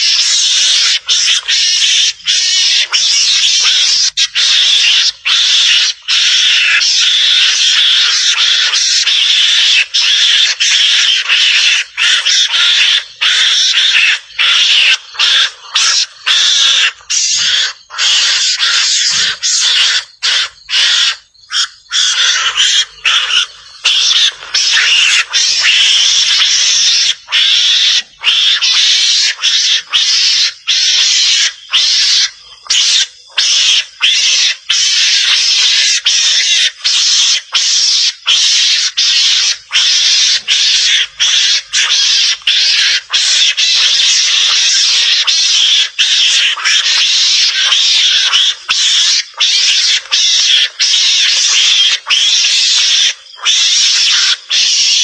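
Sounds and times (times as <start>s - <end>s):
mongoose harsh hissing chatter: 0.0s - 55.0s.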